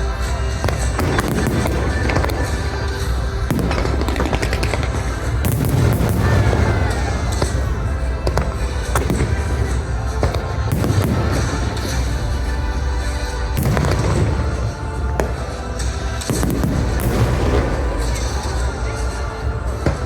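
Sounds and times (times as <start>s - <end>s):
fireworks bangs and crackles: 0.0s - 20.0s
loud music: 0.0s - 20.0s.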